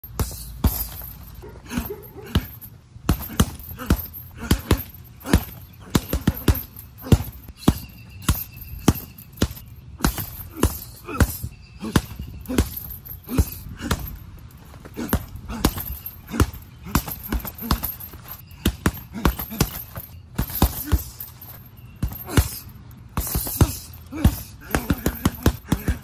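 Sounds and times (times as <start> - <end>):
punches on heavy bag: 0.0 - 26.0.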